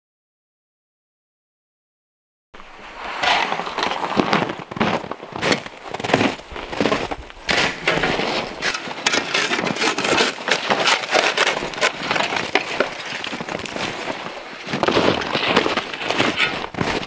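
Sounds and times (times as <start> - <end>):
boots crunching snow: 2.6 - 17.0
shovel digging crusted snow: 2.7 - 17.0.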